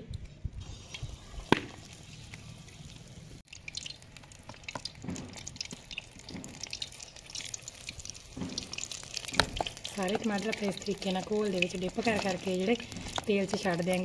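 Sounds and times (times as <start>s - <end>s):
oil sizzling and crackling: 0.6s - 14.0s.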